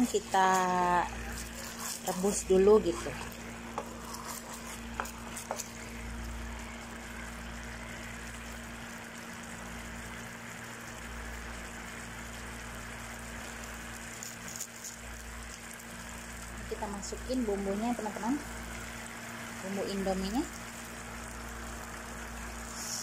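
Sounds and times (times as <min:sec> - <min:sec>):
sauce bubbling in a frying pan: 0:00.0 - 0:23.0.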